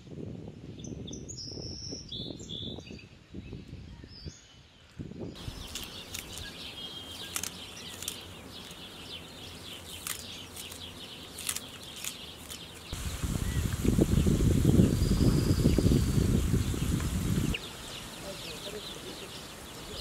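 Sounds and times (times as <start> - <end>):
birds chirping: 0.8 - 20.0.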